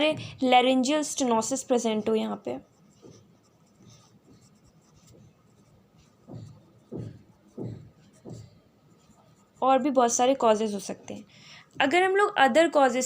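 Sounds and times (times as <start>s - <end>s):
pen scratching on paper: 0.6s - 11.3s.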